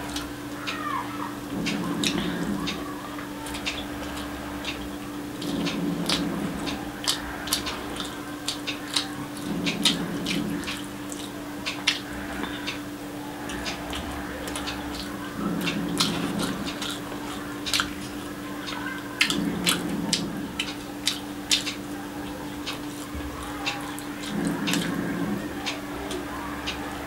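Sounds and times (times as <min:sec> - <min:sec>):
steady low hum: 0:00.0 - 0:27.0
chewing with wet mouth clicks: 0:01.5 - 0:02.8, 0:03.4 - 0:12.8, 0:13.4 - 0:26.8.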